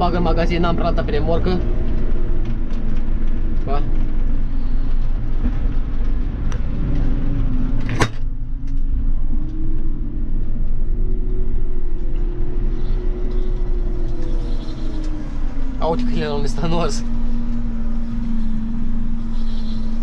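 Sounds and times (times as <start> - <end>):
steady whine: 0.0 - 20.0
tractor diesel engine rumbling: 0.0 - 20.0.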